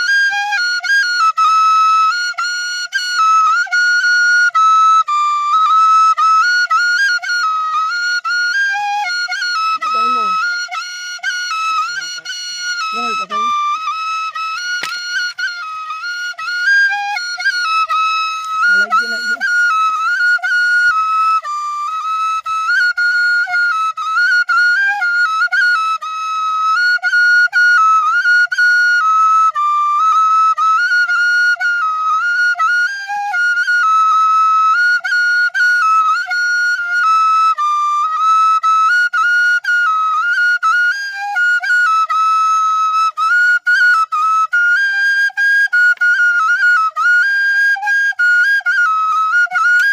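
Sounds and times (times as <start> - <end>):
bamboo flute melody: 0.0 - 49.9.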